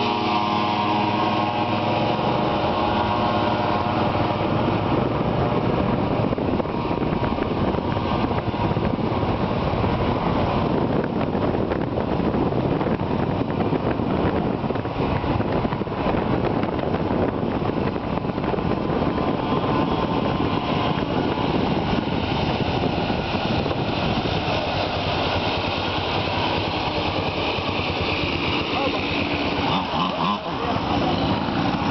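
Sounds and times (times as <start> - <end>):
mini bike engines running: 0.0 - 31.9.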